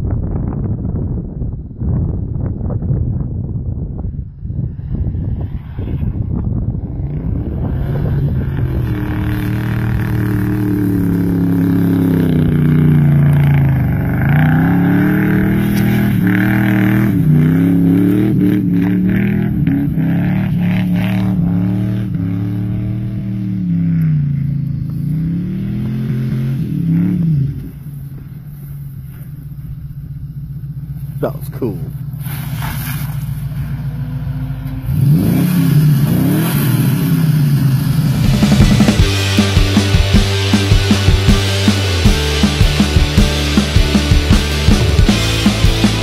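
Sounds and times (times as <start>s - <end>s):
wheels spinning in snow and mud: 0.1s - 46.0s
car engine revving: 4.6s - 46.0s.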